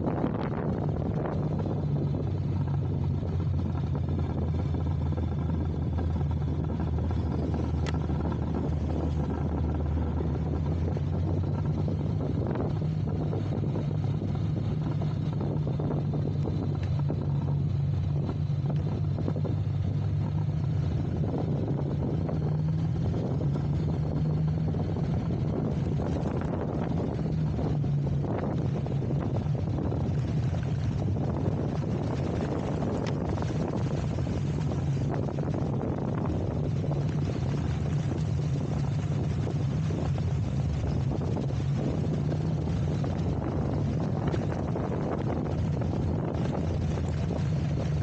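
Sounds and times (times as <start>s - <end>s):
road and wind noise: 0.0s - 48.0s
vehicle engine running: 0.0s - 48.0s.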